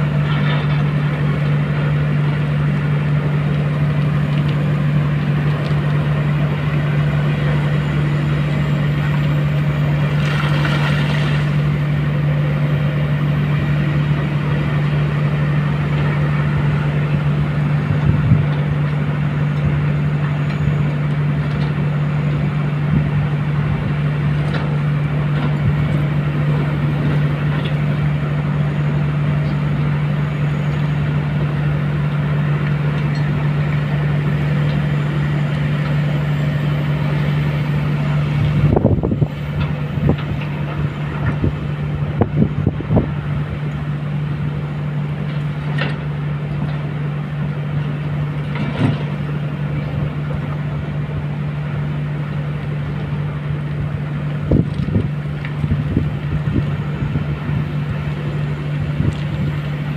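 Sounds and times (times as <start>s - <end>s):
excavator diesel engines running: 0.0s - 59.9s.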